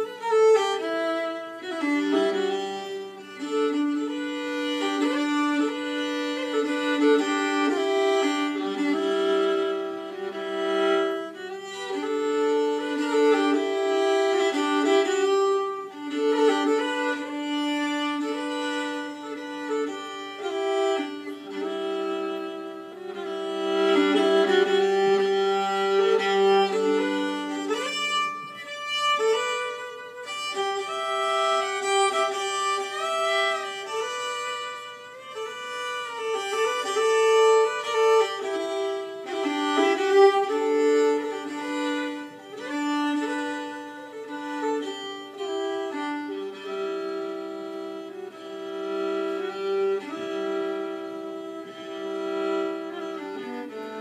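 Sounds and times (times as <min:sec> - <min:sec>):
solo fiddle tune: 0:00.0 - 0:54.0.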